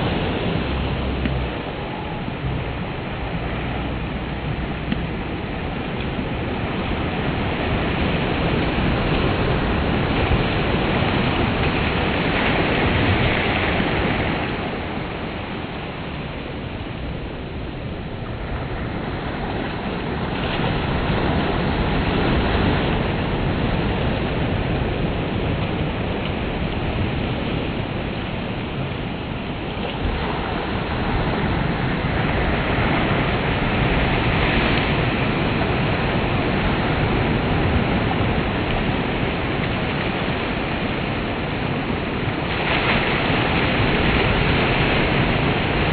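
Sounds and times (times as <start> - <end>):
surf washing up a beach: 0.0 - 45.9.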